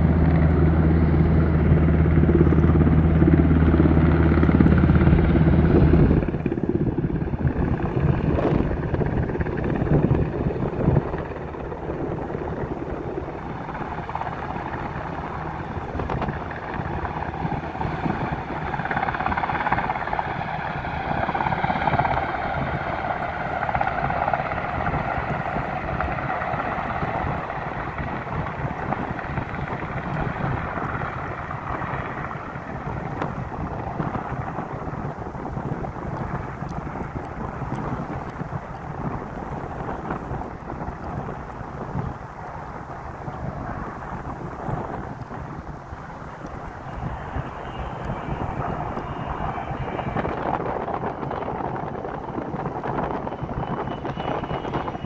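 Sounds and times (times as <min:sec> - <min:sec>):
helicopter rotors running: 0:00.0 - 0:55.0.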